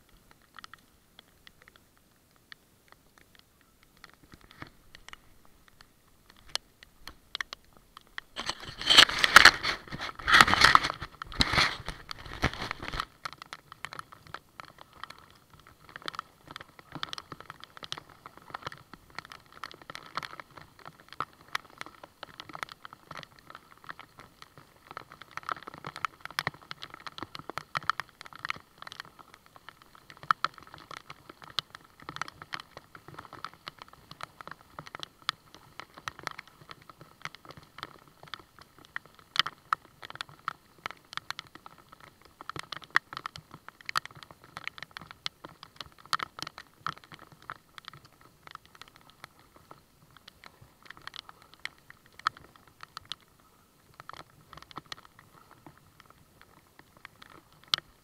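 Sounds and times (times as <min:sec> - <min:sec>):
rain drops tapping: 0:00.0 - 0:58.0.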